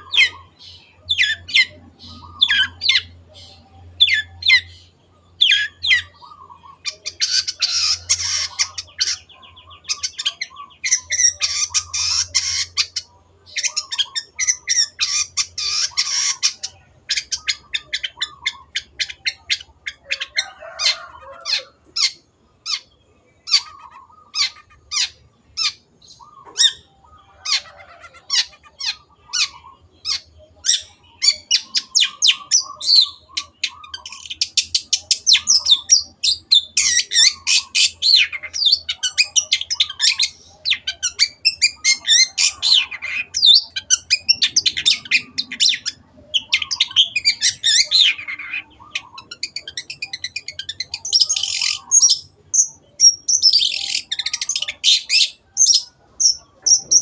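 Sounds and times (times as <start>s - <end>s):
bird singing harsh chattering notes: 0.0s - 57.0s.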